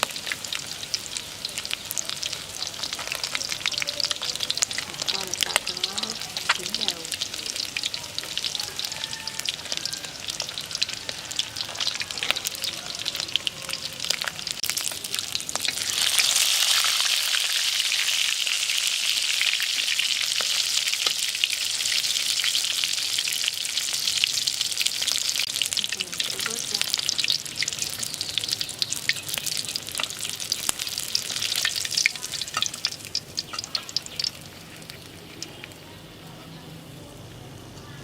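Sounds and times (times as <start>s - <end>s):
food deep-frying in oil: 0.0s - 38.0s.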